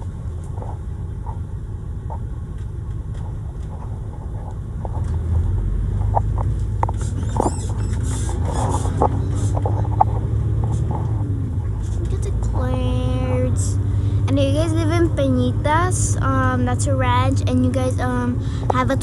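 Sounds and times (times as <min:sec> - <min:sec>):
road and engine rumble: 0:00.0 - 0:19.0.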